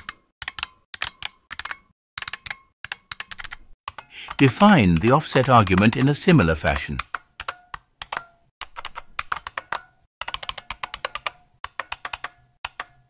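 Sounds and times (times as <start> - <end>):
typing on computer keyboard: 0.0 - 13.0.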